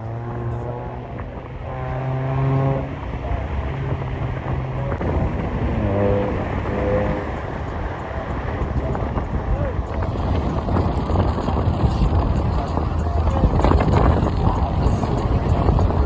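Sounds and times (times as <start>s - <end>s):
road and wind rumble: 0.0s - 16.0s
car engine running: 0.4s - 16.0s.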